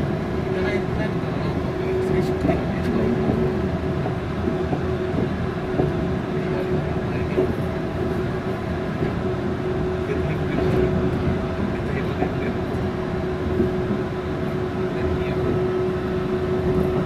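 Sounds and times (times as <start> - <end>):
train drive humming: 0.0 - 17.0
train tyres rumbling on guideway: 0.0 - 17.0.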